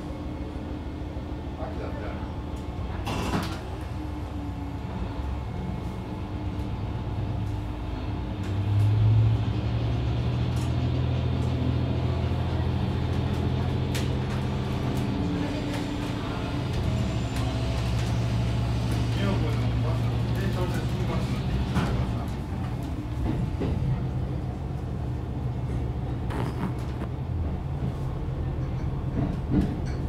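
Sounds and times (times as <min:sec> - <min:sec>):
diesel railcar engine droning: 0:00.0 - 0:30.0.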